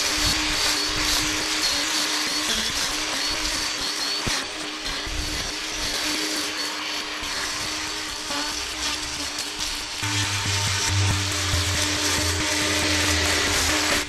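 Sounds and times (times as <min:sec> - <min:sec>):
blade cutting grass: 0:00.0 - 0:14.0
brushcutter motor whining: 0:00.0 - 0:14.0.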